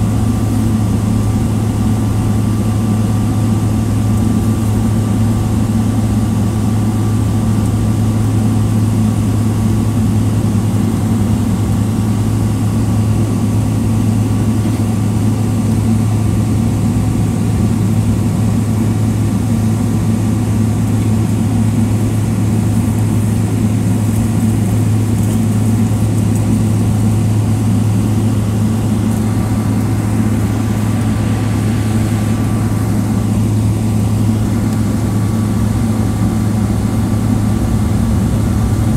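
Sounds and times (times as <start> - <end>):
low engine hum in cabin: 0.0 - 38.9.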